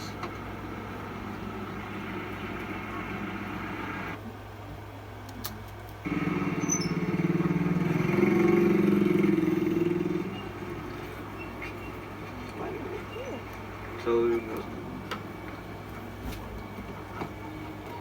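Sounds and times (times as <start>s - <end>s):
diesel engine revving: 0.0s - 4.2s, 6.1s - 17.8s.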